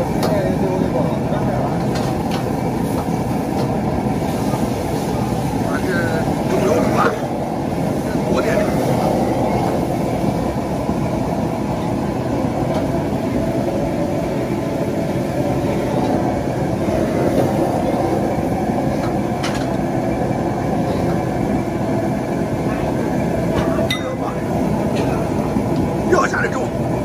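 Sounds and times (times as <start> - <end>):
food stir-frying in a wok: 0.0 - 23.6
gas burner rushing: 0.0 - 27.0.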